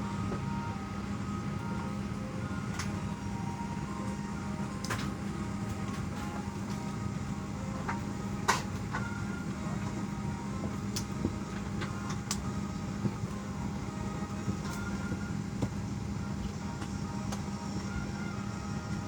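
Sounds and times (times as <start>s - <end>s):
airliner cabin hum: 0.0s - 19.0s.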